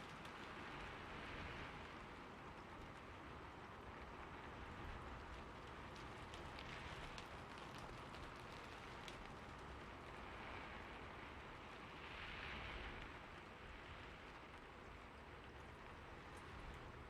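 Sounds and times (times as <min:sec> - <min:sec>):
rain on a rooftop: 0:00.0 - 0:17.0.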